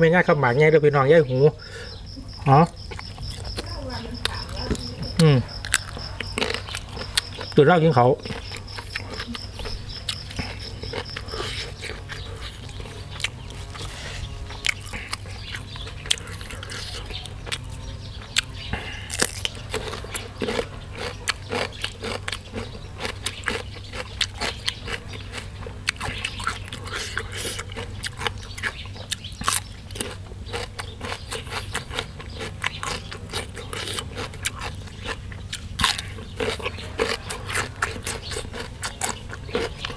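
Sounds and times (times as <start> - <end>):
person chewing crunchy vegetables: 1.6 - 39.9.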